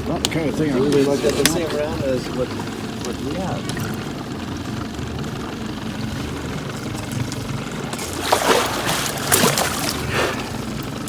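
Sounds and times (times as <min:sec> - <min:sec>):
boat motor rumbling: 0:00.0 - 0:11.0.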